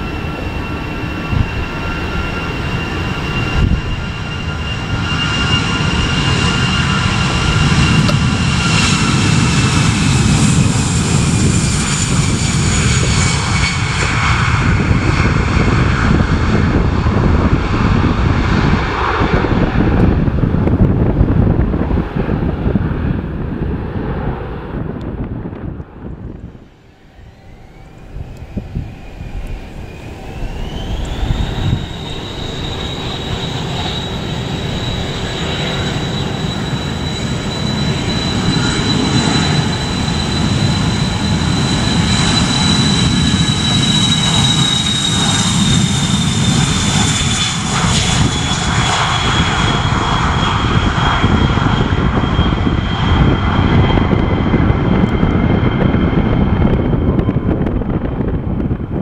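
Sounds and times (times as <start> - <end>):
deep jet rumble: 0.0 - 59.0
jet engine whine: 0.0 - 59.0.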